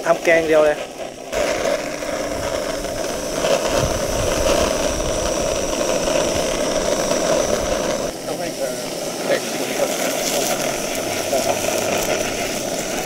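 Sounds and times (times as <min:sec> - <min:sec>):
gas blowtorch hissing: 0:00.0 - 0:13.0.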